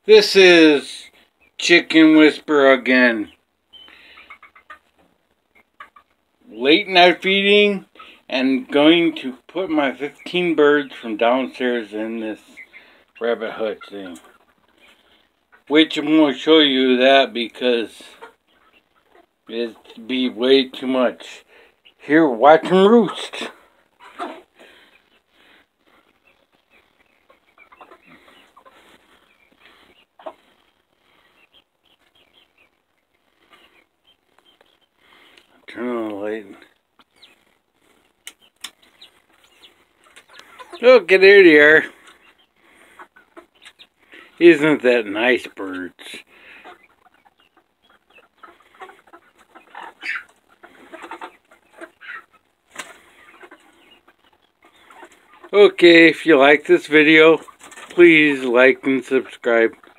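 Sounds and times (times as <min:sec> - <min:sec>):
chickens clucking softly: 0:03.2 - 0:06.5, 0:07.8 - 0:16.8, 0:17.4 - 0:59.9.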